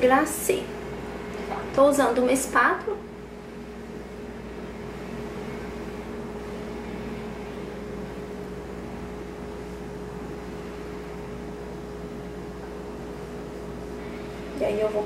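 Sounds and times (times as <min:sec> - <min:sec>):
constant mid-pitched tone: 0:00.0 - 0:15.0.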